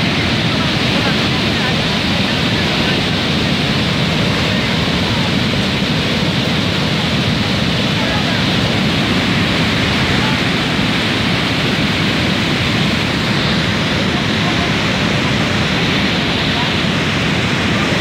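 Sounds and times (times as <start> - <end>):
flood water rushing down channel: 0.0 - 18.0.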